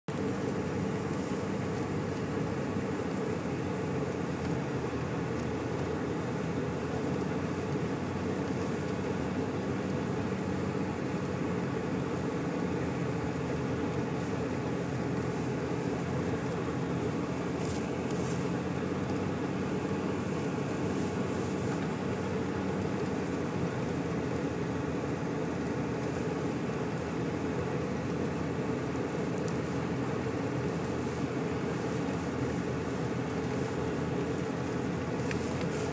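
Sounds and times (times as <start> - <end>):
engine and road noise in car: 0.0 - 35.9.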